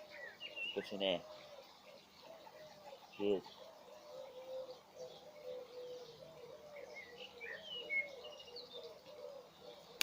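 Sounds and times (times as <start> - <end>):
bird high chirps: 0.0 - 10.0.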